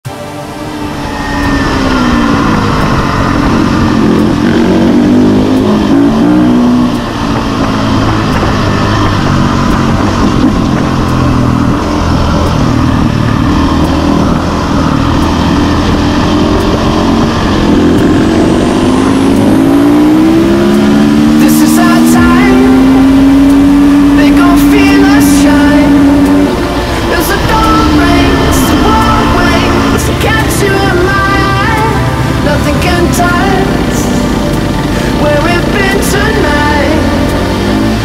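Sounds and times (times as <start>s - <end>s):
dirt bike engine revving: 0.1s - 38.0s
wind rush on microphone: 0.8s - 38.0s.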